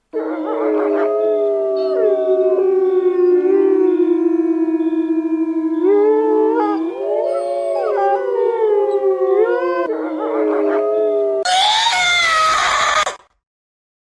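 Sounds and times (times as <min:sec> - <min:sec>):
animals howling: 0:00.1 - 0:13.1.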